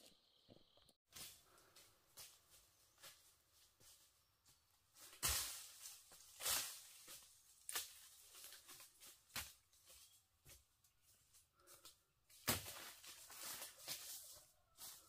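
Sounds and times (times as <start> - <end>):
footsteps crunching through dry leaves: 1.1 - 11.3, 12.4 - 15.0.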